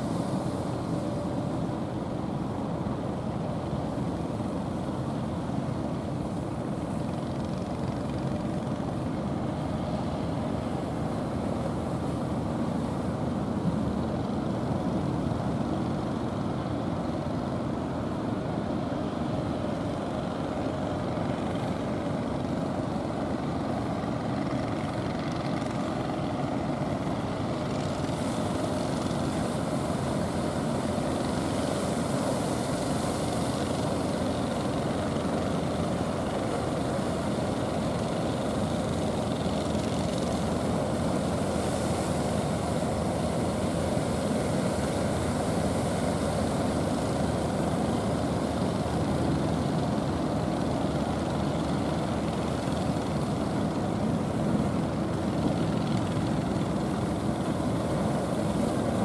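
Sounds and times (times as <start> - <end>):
boat engines droning: 0.0 - 59.0.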